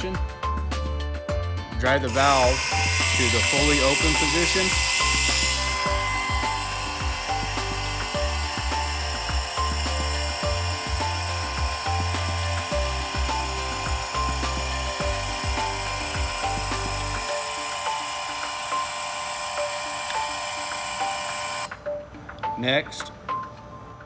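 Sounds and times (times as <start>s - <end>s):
geared motor running: 2.0s - 21.8s.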